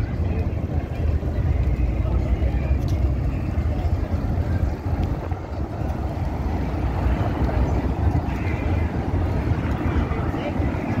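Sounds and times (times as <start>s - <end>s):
faint voices of passers-by: 0.0s - 11.0s
low rumble of traffic: 0.0s - 11.0s.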